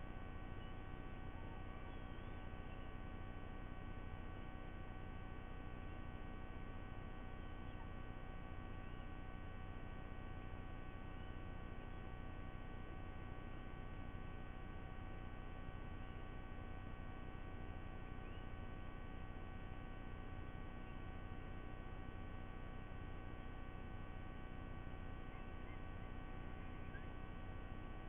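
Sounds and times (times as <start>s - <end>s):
constant whining tones: 0.0s - 28.0s.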